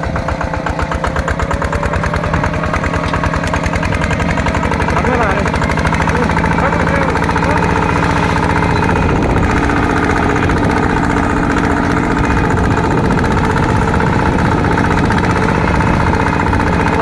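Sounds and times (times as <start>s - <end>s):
single-cylinder diesel engine thudding: 0.0s - 17.0s.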